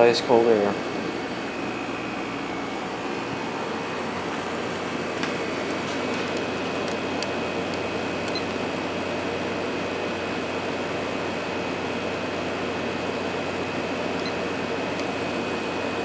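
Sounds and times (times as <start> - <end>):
air conditioner running: 0.0 - 16.0.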